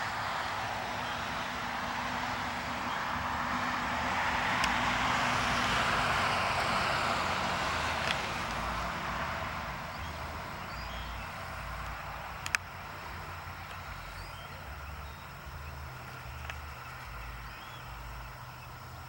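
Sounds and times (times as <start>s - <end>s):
car driving past: 0.0s - 18.8s.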